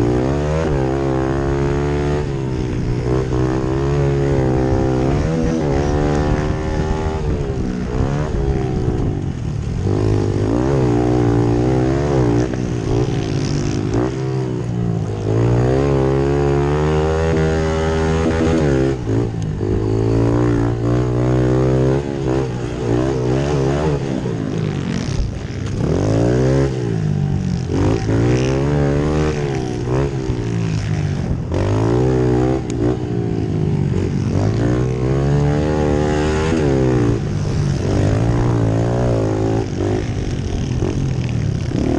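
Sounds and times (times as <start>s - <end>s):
pit bike engines revving: 0.0s - 41.9s.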